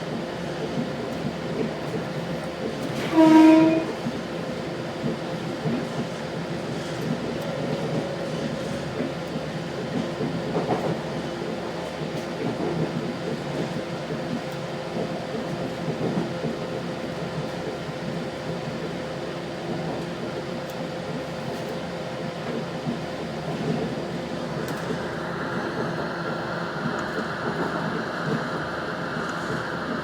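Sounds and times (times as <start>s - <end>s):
train interior rumble: 0.0s - 30.0s.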